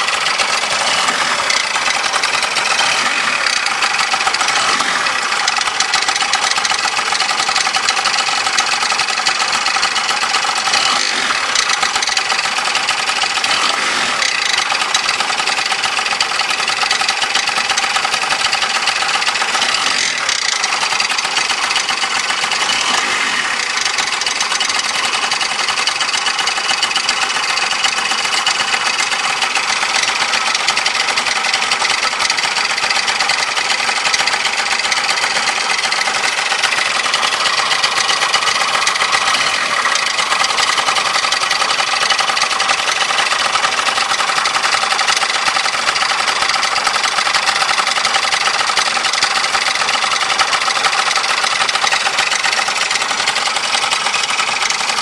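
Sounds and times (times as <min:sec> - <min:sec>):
high mechanical rattle: 0:00.0 - 0:55.0
scooter engine running: 0:00.0 - 0:55.0.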